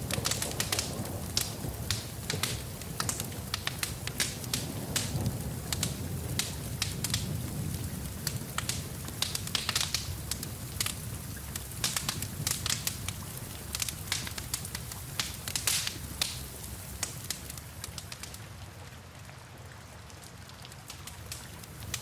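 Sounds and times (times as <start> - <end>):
rumble of flames: 0.0 - 18.4, 20.6 - 22.0
steady rain: 0.0 - 22.0
wood fire crackling: 0.0 - 22.0.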